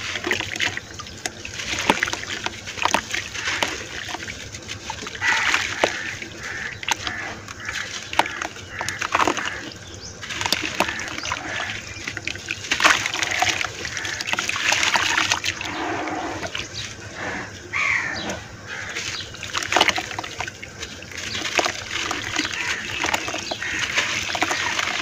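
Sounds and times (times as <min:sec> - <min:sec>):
mud splashing and sloshing: 0:00.0 - 0:25.0.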